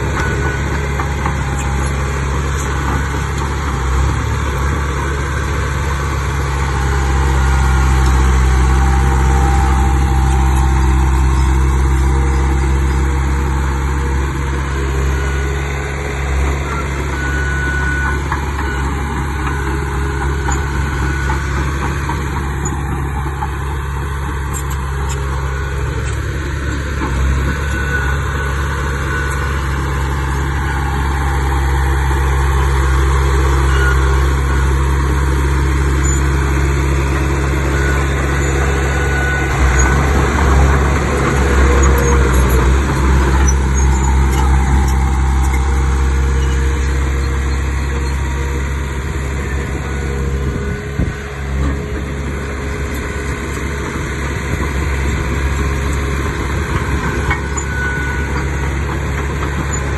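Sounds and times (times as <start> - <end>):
large diesel engine droning: 0.0 - 59.9.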